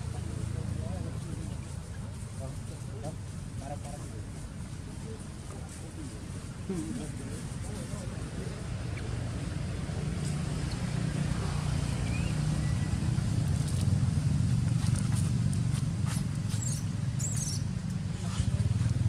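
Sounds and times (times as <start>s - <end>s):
low motor-like rumble: 0.0s - 19.0s.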